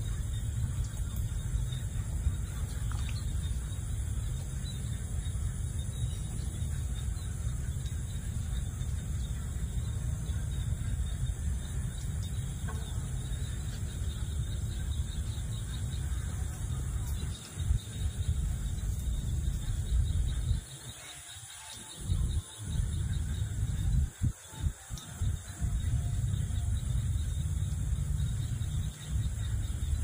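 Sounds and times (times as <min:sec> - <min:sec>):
wind rumble on microphone: 0:00.0 - 0:20.9, 0:21.9 - 0:30.0
insect drone: 0:00.0 - 0:30.0.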